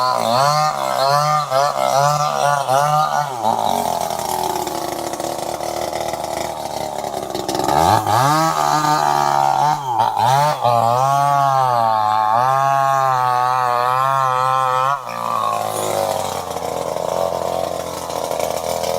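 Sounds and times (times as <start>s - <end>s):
chainsaw engine revving: 0.0s - 18.9s.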